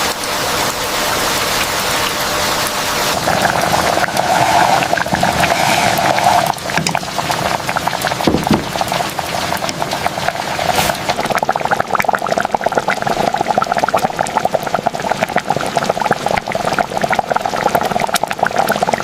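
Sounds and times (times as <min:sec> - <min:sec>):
water bubbling: 0:01.2 - 0:19.0.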